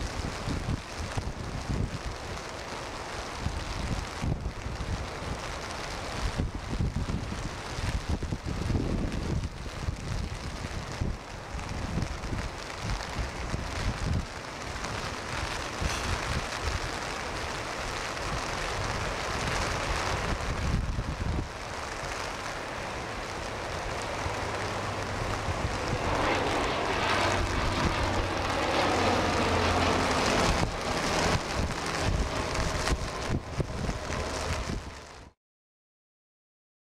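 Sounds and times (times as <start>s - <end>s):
heavy surf: 0.0s - 35.4s
propeller plane drone: 0.0s - 35.4s
wind on microphone: 0.0s - 35.4s.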